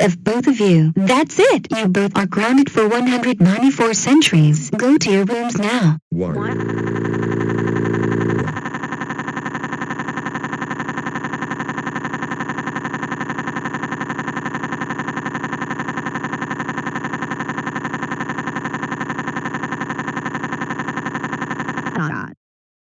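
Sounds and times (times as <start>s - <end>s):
buzzing electronic tone: 0.0s - 22.3s.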